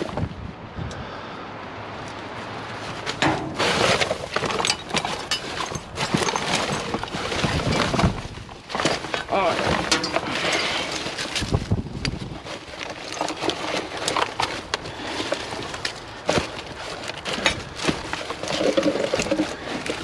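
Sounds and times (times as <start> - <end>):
rummaging through scrap metal: 2.0 - 20.0.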